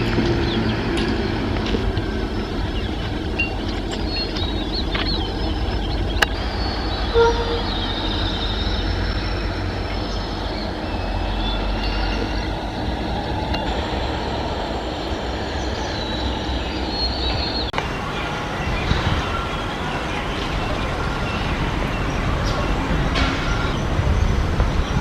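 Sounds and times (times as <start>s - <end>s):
high-pitched wheel squeals: 0.0s - 24.3s
train wheels rumbling on track: 0.0s - 25.0s.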